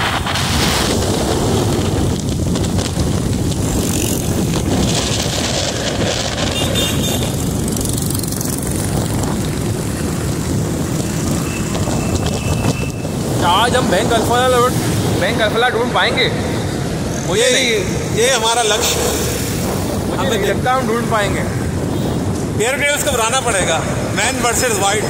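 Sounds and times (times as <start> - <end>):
passing street traffic: 0.0 - 25.0
vehicle engine and road noise: 0.0 - 25.0
wind rush on microphone: 0.0 - 25.0.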